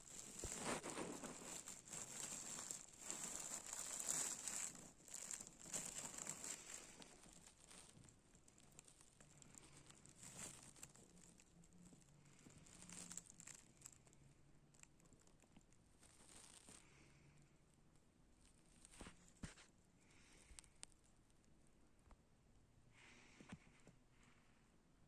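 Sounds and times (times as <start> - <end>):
crinkling and rustling: 0.0 - 17.6, 18.3 - 22.2.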